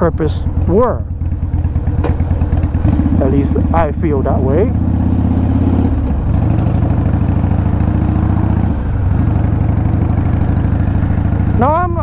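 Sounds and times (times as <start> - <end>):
motorcycle engine and exhaust: 0.0 - 12.0.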